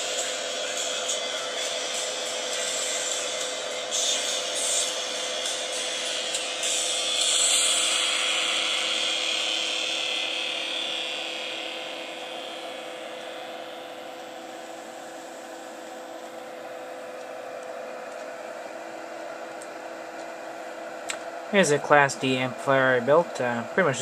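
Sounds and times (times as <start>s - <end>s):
electrical hiss and buzz: 0.0s - 24.0s
steady hum tones: 0.0s - 24.0s.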